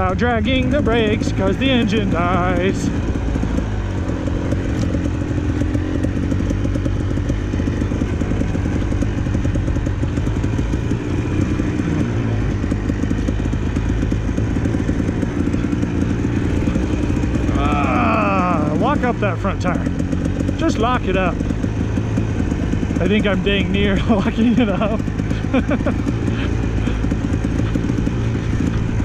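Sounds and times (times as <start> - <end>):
dirt bike engine at low revs: 0.0 - 29.0.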